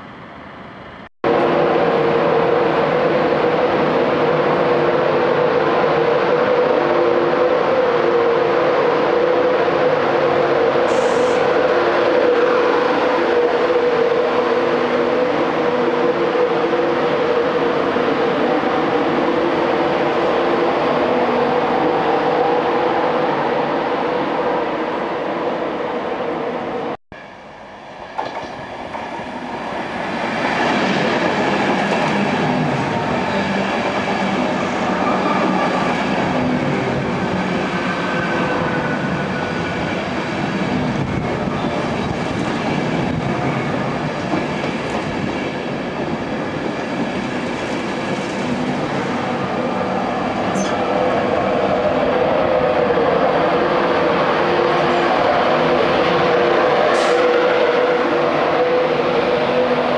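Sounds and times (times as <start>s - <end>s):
electric train rumbling: 0.0s - 59.9s
held train tones: 0.0s - 59.9s.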